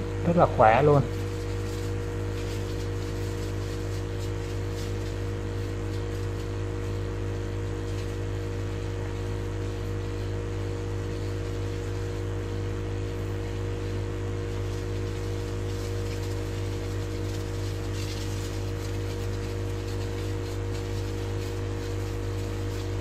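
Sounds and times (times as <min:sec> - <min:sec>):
electric sprayer pump humming: 0:00.0 - 0:23.0.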